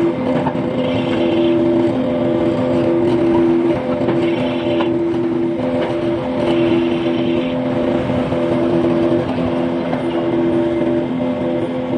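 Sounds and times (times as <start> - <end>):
forklift engine running: 0.0 - 11.9
alternating pitch tones: 0.8 - 11.9.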